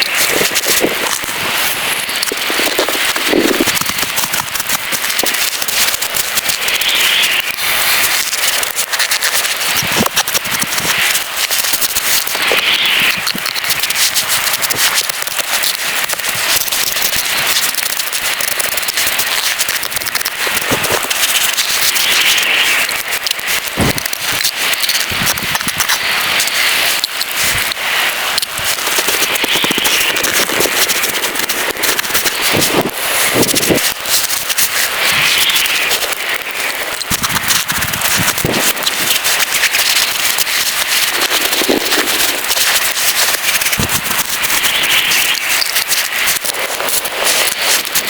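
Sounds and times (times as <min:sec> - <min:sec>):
heavy rain on a tent: 0:00.0 - 0:48.0.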